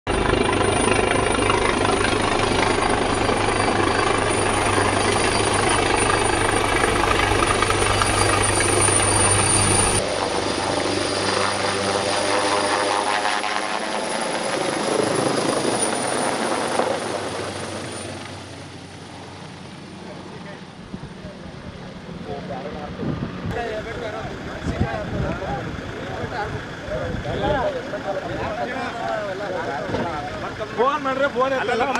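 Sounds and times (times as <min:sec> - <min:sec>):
helicopter rotors and engines: 0:00.1 - 0:31.9.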